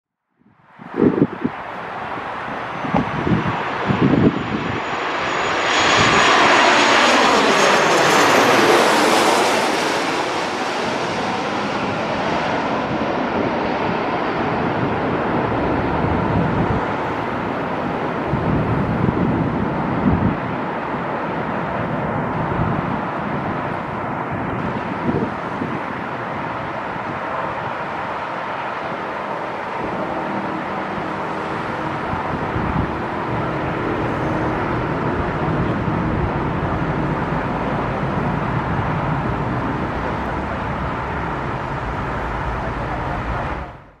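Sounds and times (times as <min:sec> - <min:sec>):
distant jet rumble: 0:00.6 - 0:44.0.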